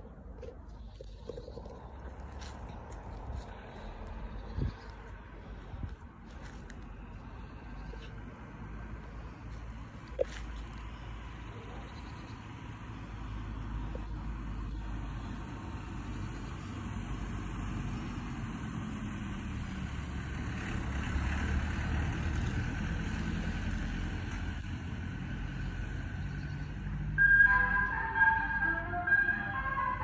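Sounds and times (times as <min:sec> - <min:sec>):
van engine rumble: 0:00.0 - 0:30.0.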